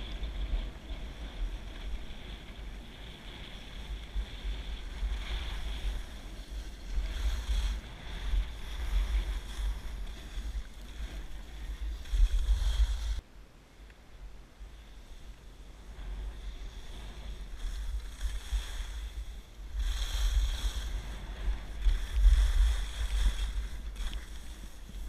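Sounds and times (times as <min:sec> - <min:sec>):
skis sliding on snow: 0:00.0 - 0:13.2, 0:14.7 - 0:25.0
wind buffeting microphone: 0:00.0 - 0:13.2, 0:15.6 - 0:25.0.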